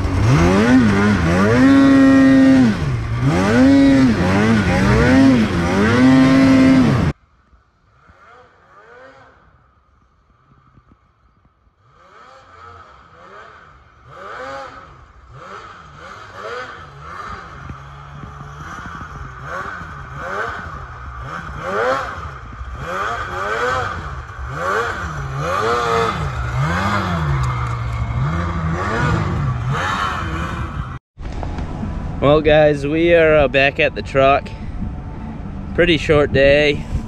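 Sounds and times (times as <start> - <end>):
snowmobile engine revving: 0.0 - 7.2, 7.8 - 11.0, 11.6 - 31.0, 35.0 - 37.0.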